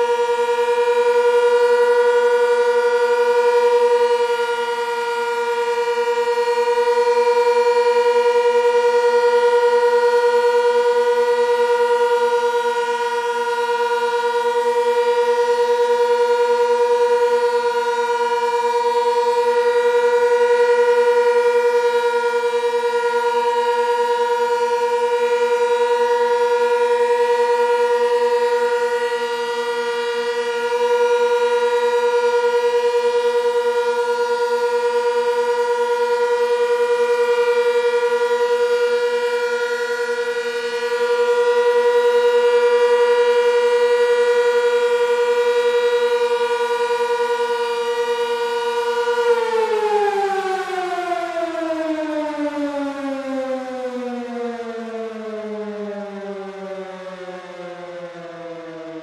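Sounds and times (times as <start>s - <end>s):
warning siren steady tone: 0.0s - 59.0s.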